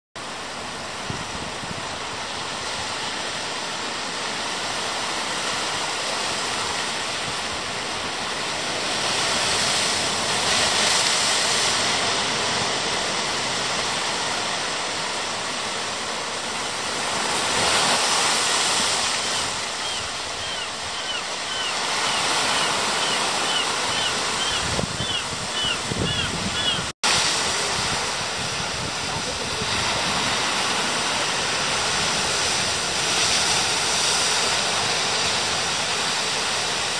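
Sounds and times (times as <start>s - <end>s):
ocean surf on a beach: 0.2s - 36.9s.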